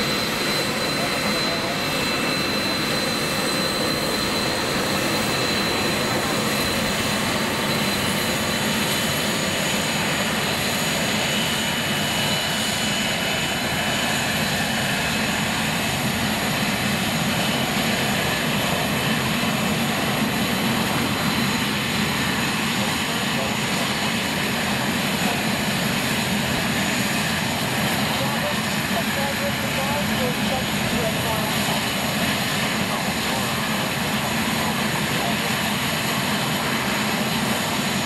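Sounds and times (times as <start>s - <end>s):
jet engines rushing hum and whine: 0.0s - 38.0s.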